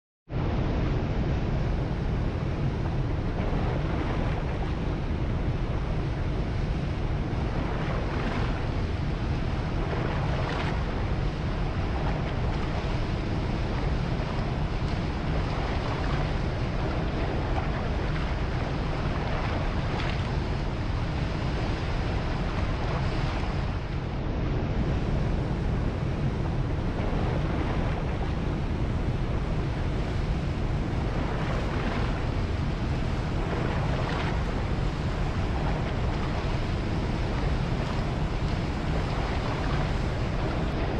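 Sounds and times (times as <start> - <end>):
waves washing in: 0.3 - 40.9
wind rumble on microphone: 0.3 - 40.9
surf rushing: 0.4 - 40.9.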